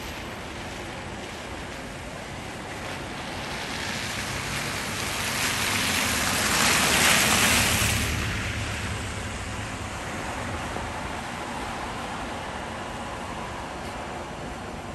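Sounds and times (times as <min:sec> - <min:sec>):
tyres hissing on wet street: 0:00.0 - 0:14.9.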